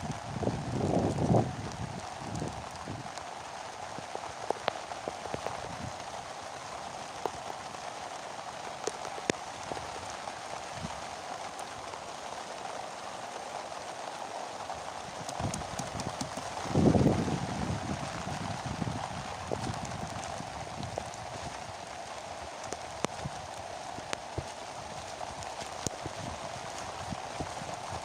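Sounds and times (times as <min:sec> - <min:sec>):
rain hissing: 0:00.0 - 0:28.0
sharp taps of raindrops: 0:00.0 - 0:28.0.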